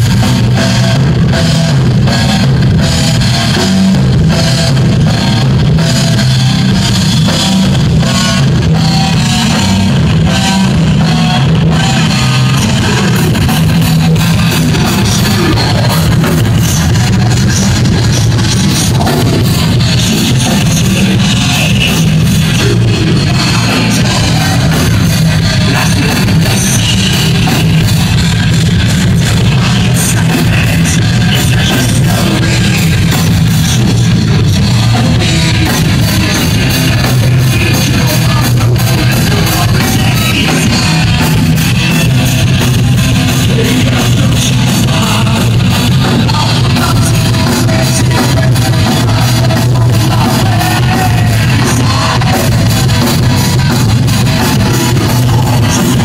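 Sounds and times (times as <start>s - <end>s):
bass guitar: 0.0s - 56.0s
distorted electric guitars: 0.0s - 56.0s
fast drumming: 0.0s - 56.0s
person singing: 7.6s - 28.2s, 29.0s - 56.0s.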